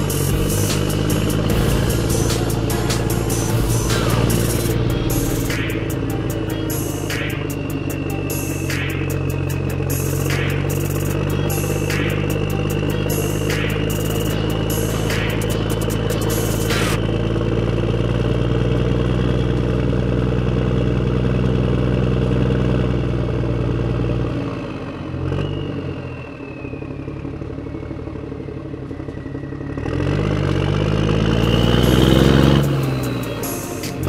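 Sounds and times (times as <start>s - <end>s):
large vehicle engine running: 0.0s - 34.0s.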